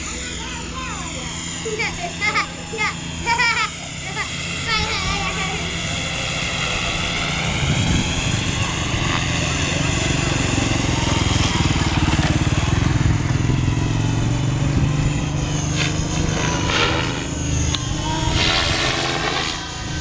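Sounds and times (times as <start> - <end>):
helicopter rotor buzz: 0.0 - 20.0
high-pitched whine: 0.0 - 20.0.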